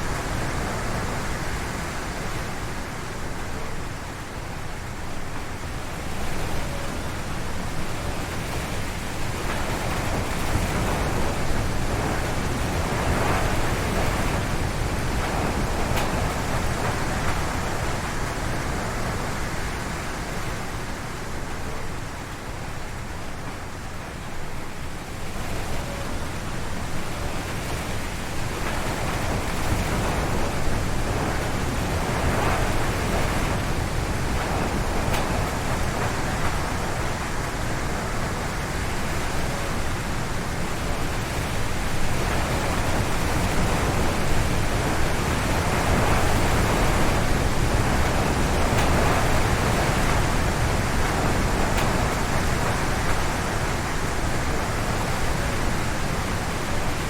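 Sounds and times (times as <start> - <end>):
wind howling through trees: 0.0 - 57.0.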